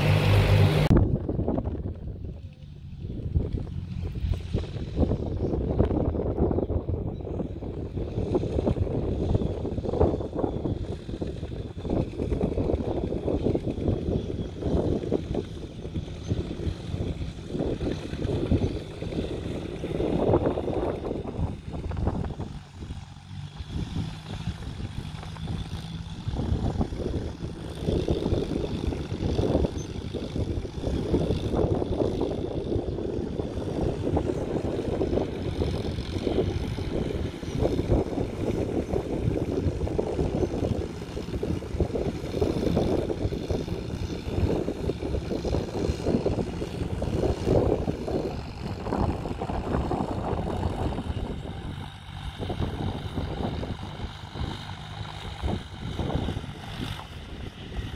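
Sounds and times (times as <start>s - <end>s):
distant tractor engines droning: 0.0s - 57.9s
wind buffeting microphone: 0.0s - 57.9s.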